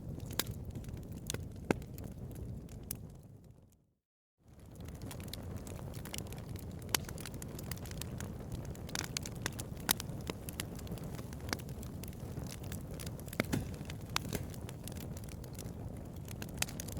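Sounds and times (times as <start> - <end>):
bonfire crackling and popping: 0.0 - 3.8, 4.5 - 16.9.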